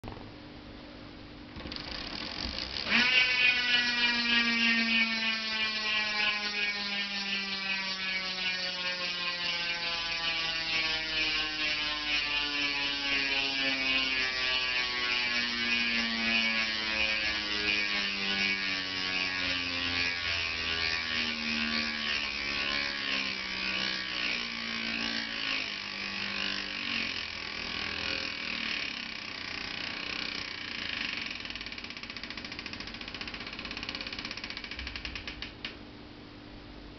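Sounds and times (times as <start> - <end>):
bicycle hub ratchet buzzing: 1.6 - 35.8.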